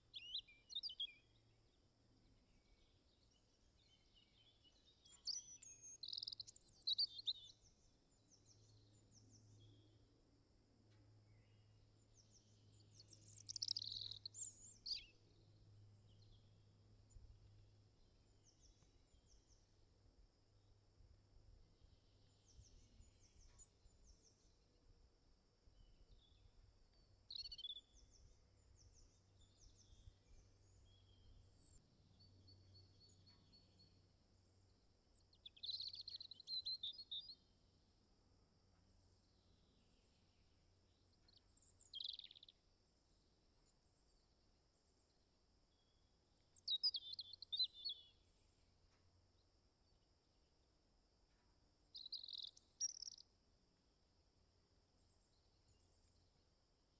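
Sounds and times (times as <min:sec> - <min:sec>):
small birds chirping: 0:00.0 - 0:10.2, 0:10.8 - 0:20.8, 0:21.4 - 0:25.0, 0:25.6 - 0:50.1, 0:51.1 - 0:53.4, 0:54.9 - 0:56.5.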